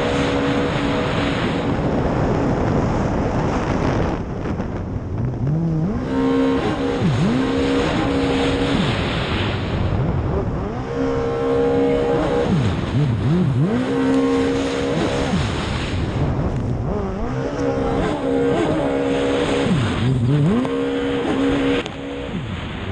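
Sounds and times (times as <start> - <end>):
jet ski engine revving: 0.0 - 3.3, 5.2 - 22.9.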